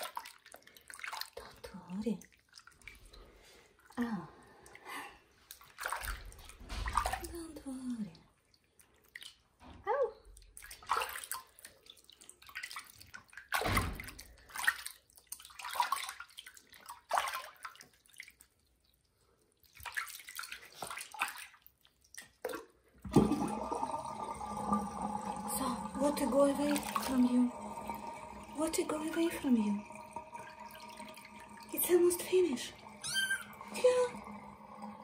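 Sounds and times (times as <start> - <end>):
water splashing in a sink: 0.0 - 35.0.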